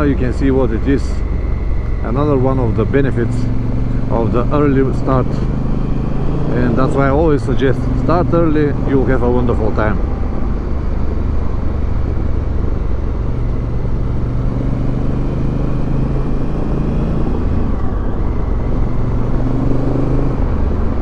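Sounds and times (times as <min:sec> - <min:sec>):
motorcycle riding at speed: 0:00.0 - 0:21.0.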